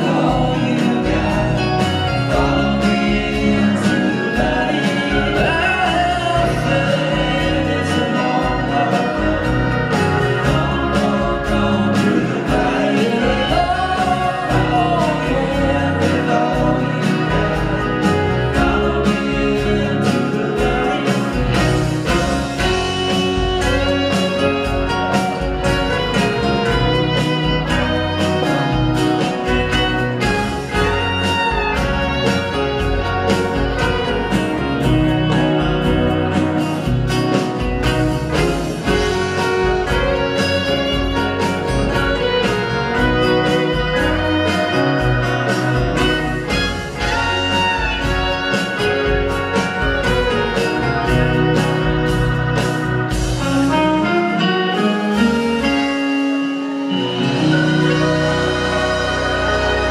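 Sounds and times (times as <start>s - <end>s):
live band instrumental: 0.0s - 59.9s.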